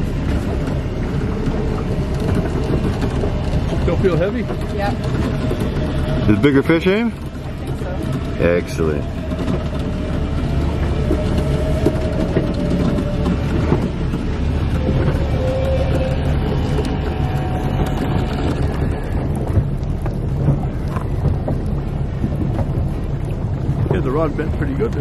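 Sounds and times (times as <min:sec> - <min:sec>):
boat motor running: 0:00.0 - 0:25.0
wind buffeting microphone: 0:00.0 - 0:25.0.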